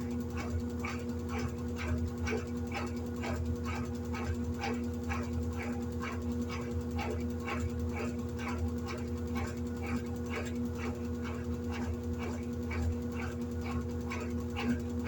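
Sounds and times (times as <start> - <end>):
washing machine agitation strokes: 0.0 - 15.0
washing machine motor hum: 0.0 - 15.0.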